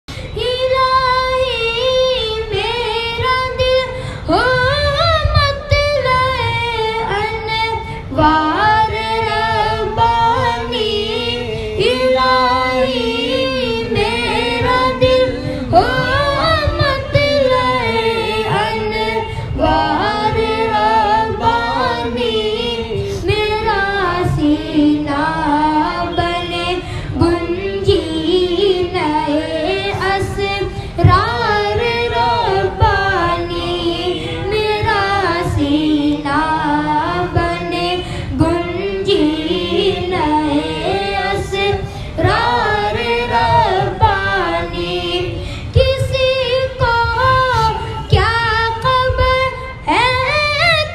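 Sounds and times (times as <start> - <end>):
boy singing devotional song: 0.1 - 50.9
low rhythmic pulse: 4.4 - 50.3.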